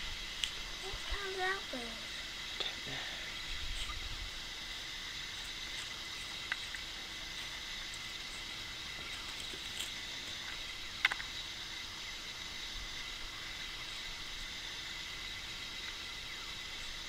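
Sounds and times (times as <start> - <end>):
background hiss: 0.0 - 17.0
faint high steady tones: 0.0 - 17.0.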